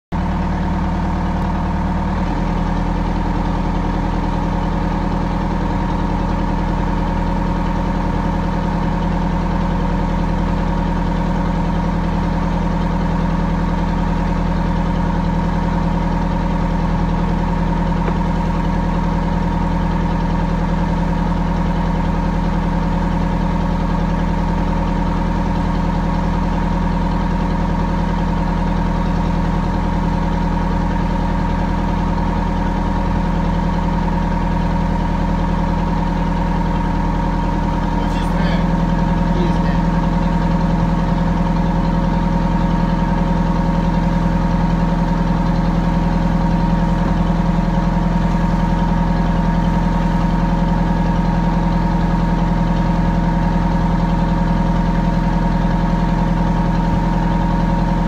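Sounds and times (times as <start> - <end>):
boat engine running: 0.1 - 58.0.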